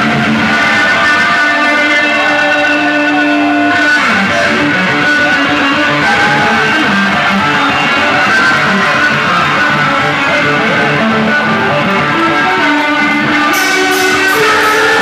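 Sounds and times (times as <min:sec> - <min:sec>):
electric guitars: 0:00.0 - 0:15.0
live rock band playing: 0:00.0 - 0:15.0.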